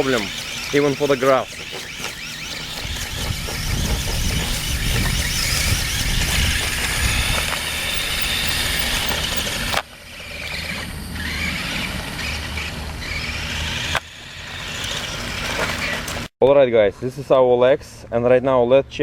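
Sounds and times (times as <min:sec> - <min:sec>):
toy truck motor whirring: 0:00.0 - 0:16.3.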